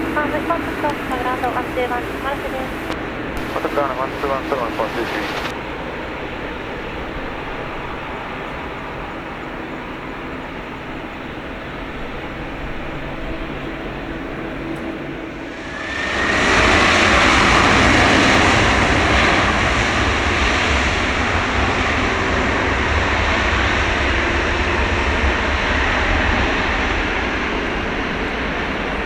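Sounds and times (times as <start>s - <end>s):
jet airliner landing: 0.0s - 29.0s.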